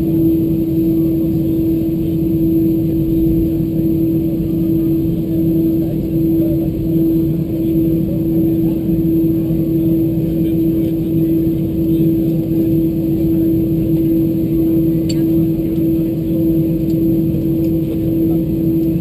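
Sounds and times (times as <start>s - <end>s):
airplane cabin engine hum: 0.0s - 19.0s.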